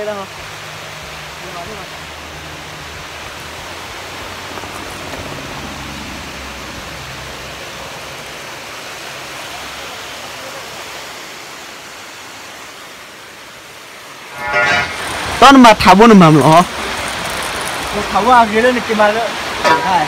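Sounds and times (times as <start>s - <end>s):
water rushing down spillway: 0.0s - 20.0s.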